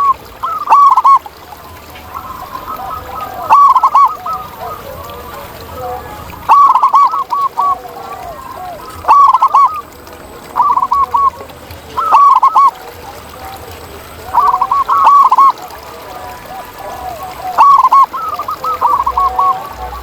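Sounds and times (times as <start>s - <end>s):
fainter lower bird calls: 0.0s - 13.6s, 14.2s - 20.0s
doves cooing: 0.0s - 20.0s.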